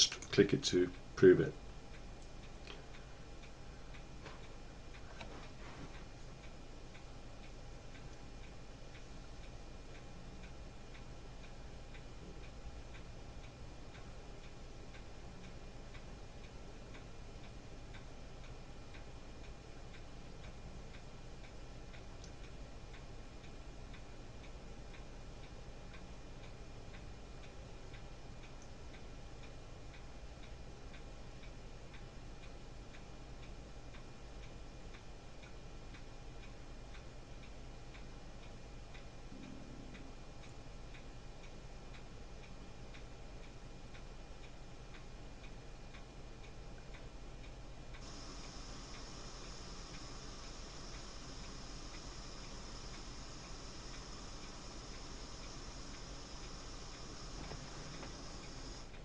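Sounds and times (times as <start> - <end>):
clock ticking: 0.0 - 5.3, 5.9 - 59.0
low electrical hum: 0.0 - 59.0.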